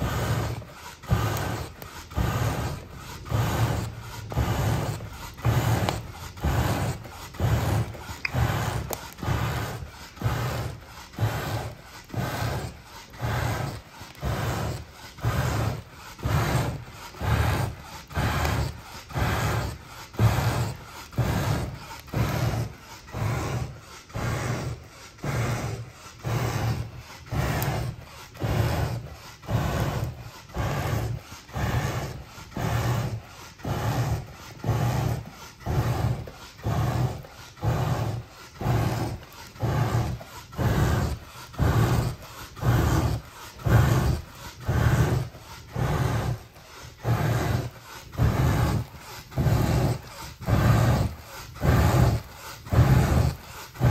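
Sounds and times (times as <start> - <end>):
hand bellows whooshing: 0.0 - 53.9.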